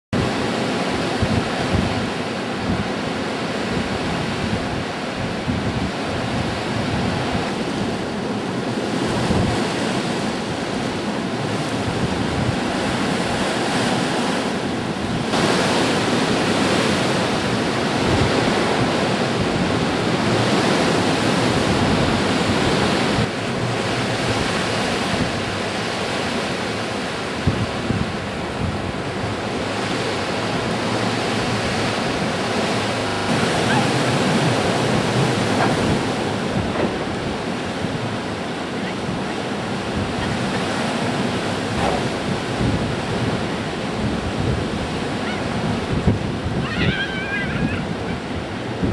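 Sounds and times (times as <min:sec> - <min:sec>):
wind buffeting microphone: 0:00.2 - 0:48.9.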